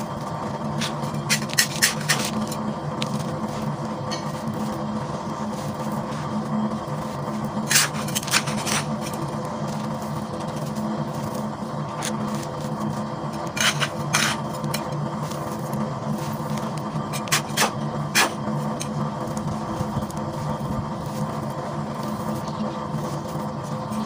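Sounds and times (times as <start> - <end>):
steady low hum: 0.0 - 24.0
sharp clicks of grit: 0.1 - 24.0.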